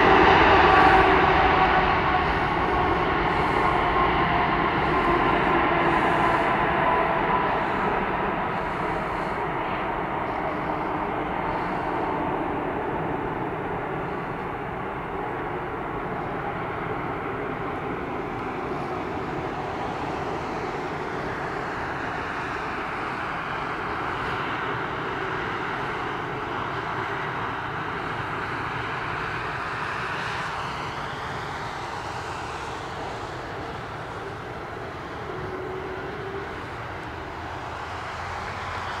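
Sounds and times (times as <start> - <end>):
jet engines at taxi power: 0.0 - 39.0.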